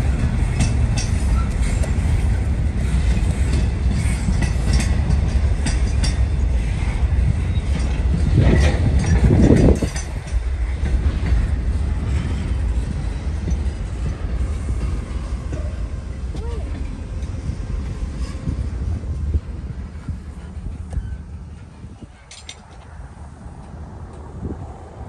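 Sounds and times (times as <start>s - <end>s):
wheels clicking over rail joints: 0.0s - 24.4s
freight train rumbling: 0.0s - 25.0s.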